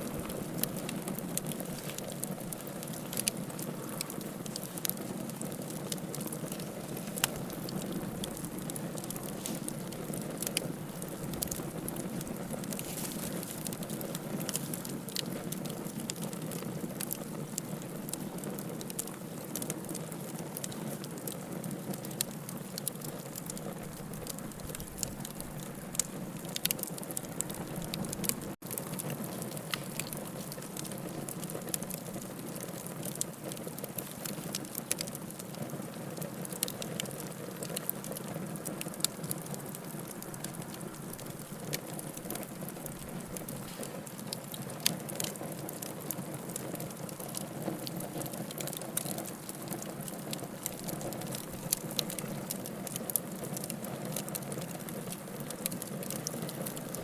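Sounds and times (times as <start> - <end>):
bonfire crackling with sharp pops: 0.0 - 57.0.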